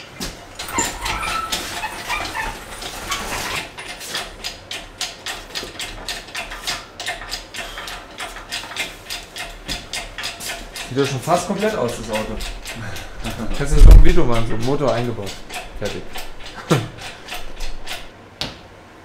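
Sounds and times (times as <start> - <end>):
metal squeaks and clatter: 0.5 - 18.1.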